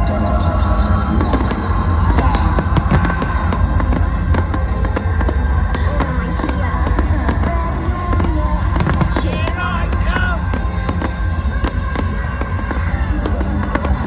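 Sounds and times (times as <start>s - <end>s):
fireworks popping and crackling: 0.0s - 14.0s
loud show music with heavy bass: 0.0s - 14.0s.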